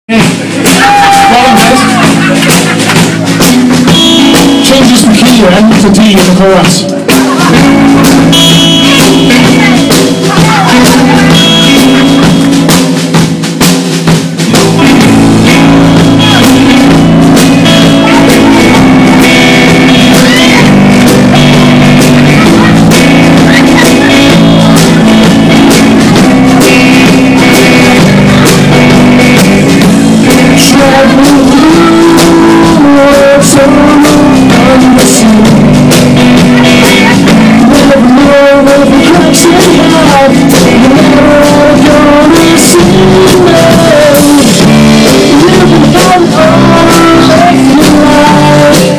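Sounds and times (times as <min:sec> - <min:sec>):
bass guitar: 0:00.0 - 0:48.9
person singing: 0:00.1 - 0:13.1, 0:14.5 - 0:48.9
drum kit: 0:00.1 - 0:48.9
electric guitar: 0:00.1 - 0:48.9.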